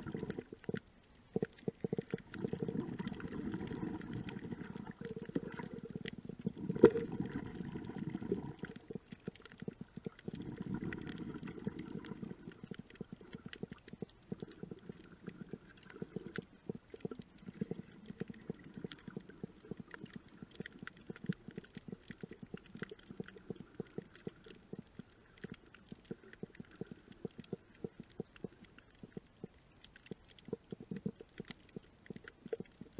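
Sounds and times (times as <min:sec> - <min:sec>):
crackle of small clicks: 0:00.0 - 0:32.9.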